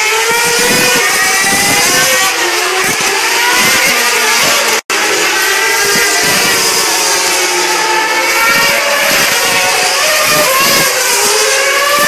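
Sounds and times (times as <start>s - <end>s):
racing car engines screaming past: 0.0s - 12.0s.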